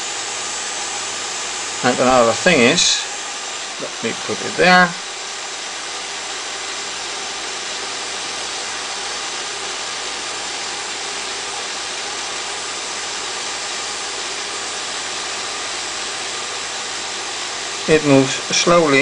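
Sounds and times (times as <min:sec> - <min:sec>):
small electric motor whirring: 0:00.0 - 0:19.0.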